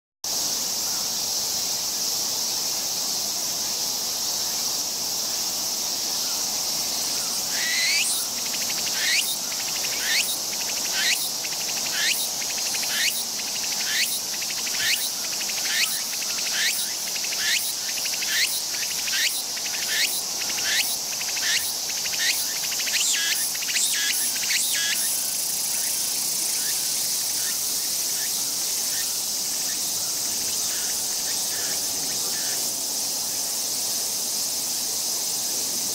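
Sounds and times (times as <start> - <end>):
cicada singing rhythmic phrases: 0.3 - 35.9.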